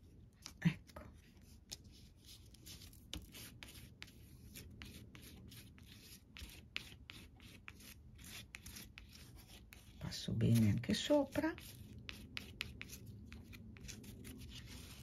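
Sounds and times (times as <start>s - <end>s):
plastic stick rubbing paper: 1.6s - 15.0s.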